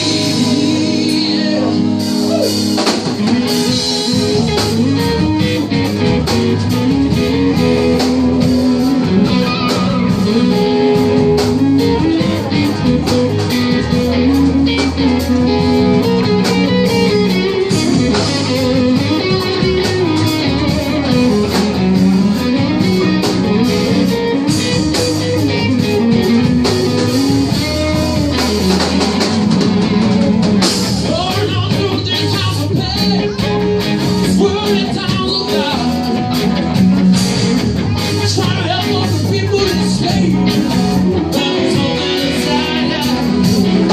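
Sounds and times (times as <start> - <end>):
bass line: 0.0 - 43.9
drum kit: 0.0 - 43.9
electric guitars: 0.0 - 43.9.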